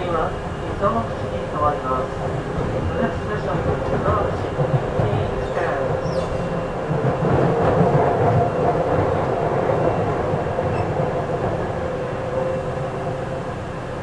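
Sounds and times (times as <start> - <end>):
wheels rumbling on track: 0.0 - 14.0.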